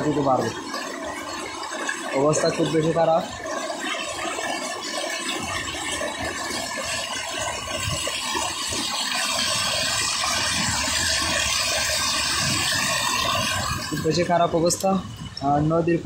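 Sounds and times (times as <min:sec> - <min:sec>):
floodwater rushing and churning: 0:00.0 - 0:16.0.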